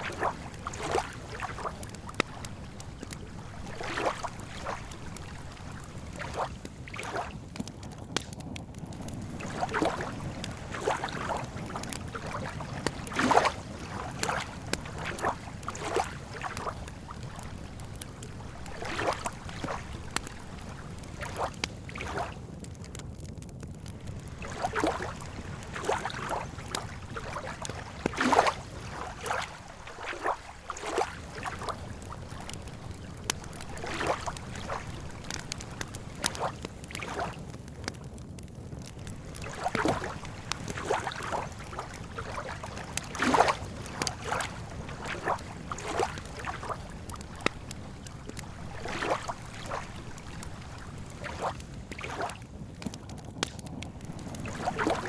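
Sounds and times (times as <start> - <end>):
water lapping at shore: 0.0 - 23.0, 23.8 - 55.0
campfire crackling and popping: 0.0 - 55.0
low wind rumble: 0.0 - 55.0.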